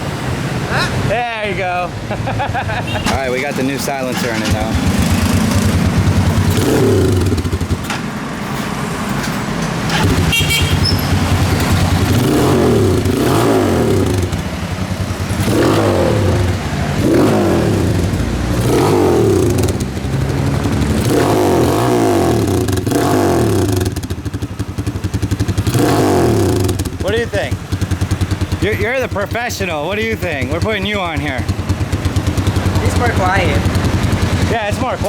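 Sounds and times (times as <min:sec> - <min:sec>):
motorcycle engine revving: 0:02.9 - 0:35.0.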